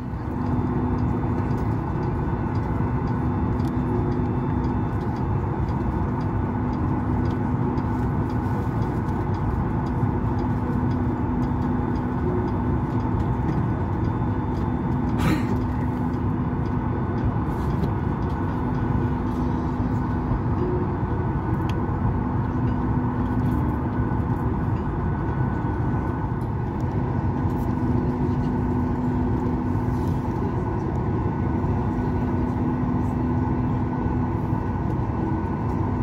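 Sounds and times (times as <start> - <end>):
airplane cabin drone: 0.0 - 36.0.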